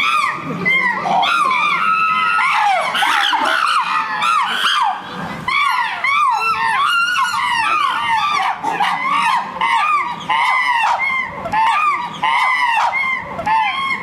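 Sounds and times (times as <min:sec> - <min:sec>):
chimpanzees screaming: 0:00.0 - 0:14.0.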